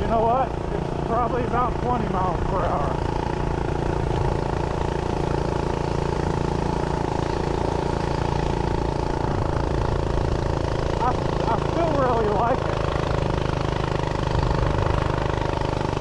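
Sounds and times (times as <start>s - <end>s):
small engine running flat out: 0.0s - 16.0s.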